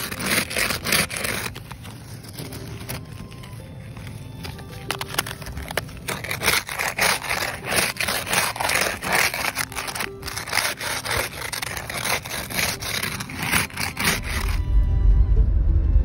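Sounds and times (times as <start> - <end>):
ice scraper scraping windshield: 0.0 - 14.6.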